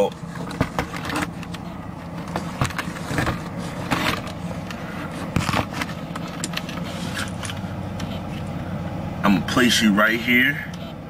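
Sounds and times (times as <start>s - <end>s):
car cabin hum: 0.0s - 11.0s.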